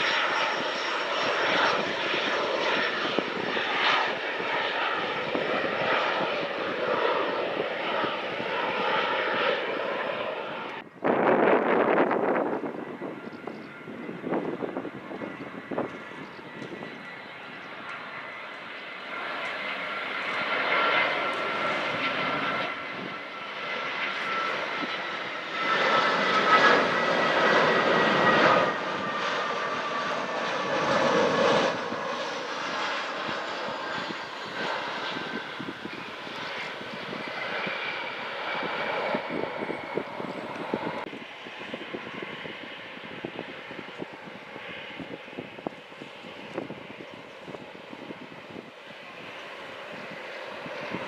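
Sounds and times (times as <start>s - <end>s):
airliner engines passing: 0.0s - 51.0s.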